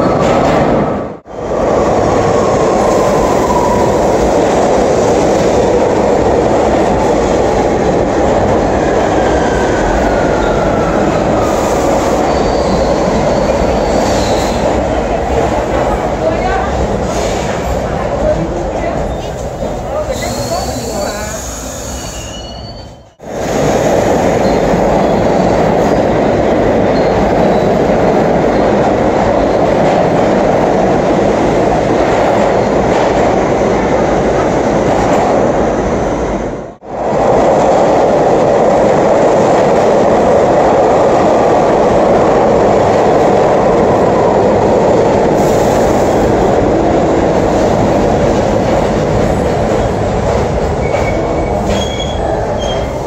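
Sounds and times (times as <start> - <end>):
subway train wheels rumbling: 0.0 - 53.0.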